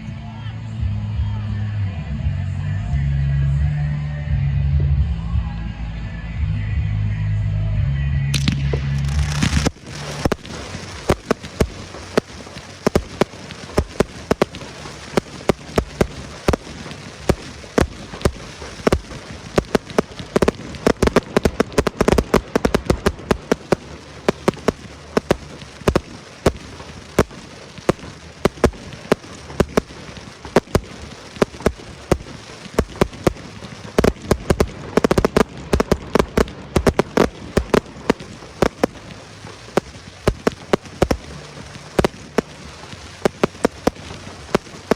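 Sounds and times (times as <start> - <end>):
fireworks crackle: 8.3 - 44.9
fireworks bangs: 8.4 - 44.9.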